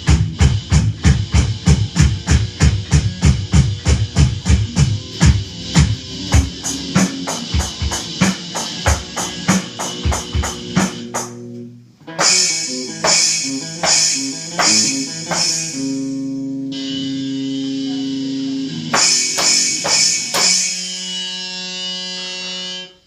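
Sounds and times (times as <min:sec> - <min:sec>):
cymbal-accented hits: 0:00.0 - 0:11.4, 0:12.2 - 0:21.5
drum kit playing: 0:00.0 - 0:21.4
ringing guitar chords: 0:00.0 - 0:23.0.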